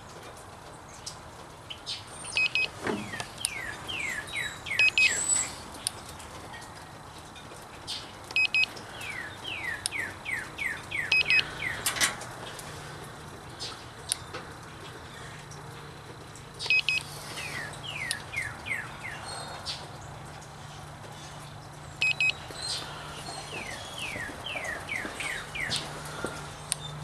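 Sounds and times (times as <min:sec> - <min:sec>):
songbird singing: 0:00.8 - 0:27.0.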